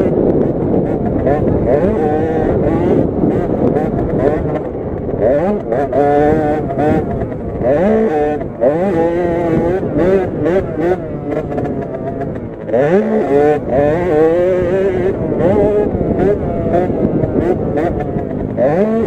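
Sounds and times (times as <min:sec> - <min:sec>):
minibike engine revving hard: 0:00.0 - 0:19.0.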